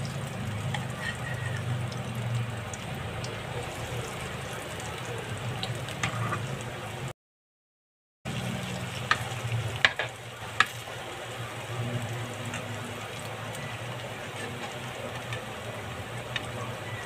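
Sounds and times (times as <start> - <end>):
food sizzling in oil: 0.0 - 7.1, 8.3 - 17.0.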